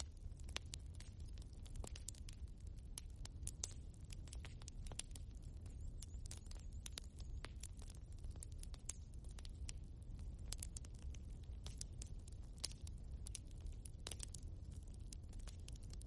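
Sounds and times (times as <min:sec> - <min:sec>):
low rumble of flames: 0:00.0 - 0:16.0
wood fire popping and snapping: 0:00.0 - 0:16.0.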